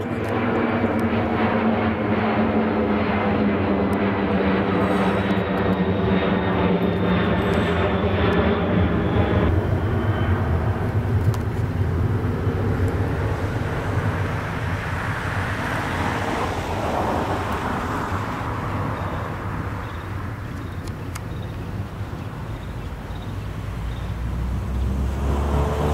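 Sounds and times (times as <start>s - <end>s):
jet engines rumbling overhead: 0.0s - 25.9s.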